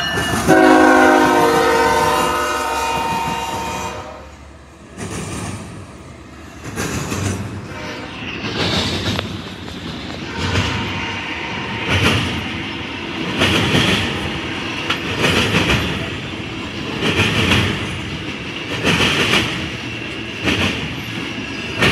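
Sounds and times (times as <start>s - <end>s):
train rumble: 0.0s - 21.9s
train wheels clattering on rails: 0.0s - 21.9s.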